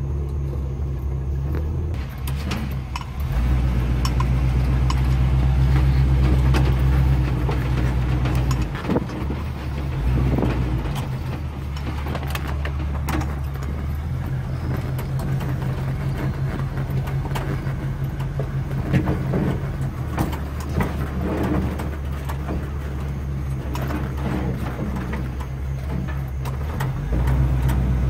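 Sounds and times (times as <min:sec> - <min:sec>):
truck engine running low: 0:00.0 - 0:28.0
truck jolting knocks: 0:01.8 - 0:28.0.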